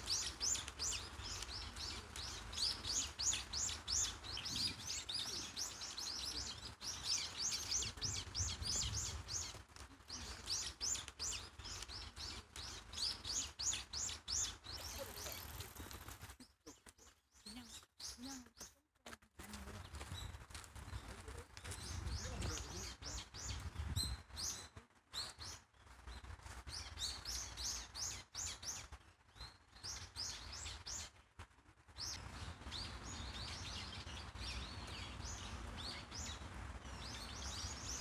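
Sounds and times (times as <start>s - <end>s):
small birds chirping: 0.0s - 31.3s, 31.9s - 38.0s.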